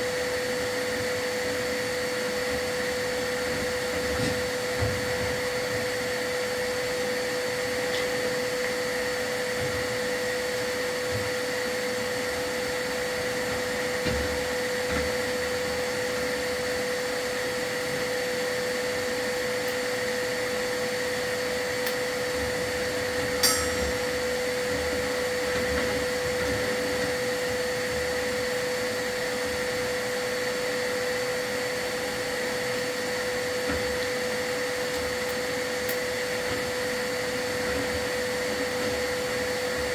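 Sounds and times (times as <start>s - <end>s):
vacuum whining: 0.0s - 39.9s.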